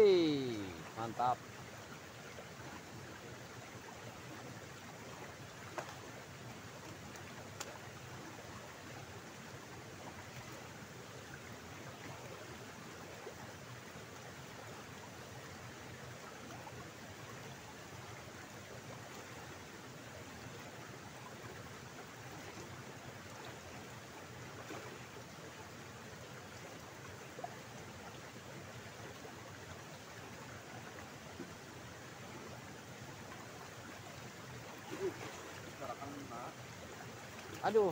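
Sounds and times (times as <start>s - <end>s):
water rushing down channel: 0.0s - 37.9s.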